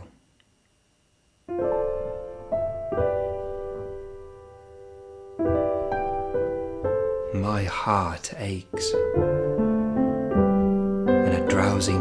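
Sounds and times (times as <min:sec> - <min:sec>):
soft piano chords: 0:01.5 - 0:12.0.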